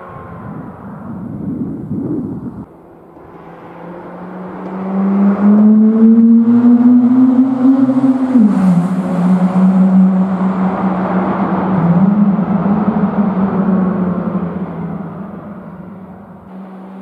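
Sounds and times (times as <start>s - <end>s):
car engine passing in tunnel: 0.0s - 17.0s.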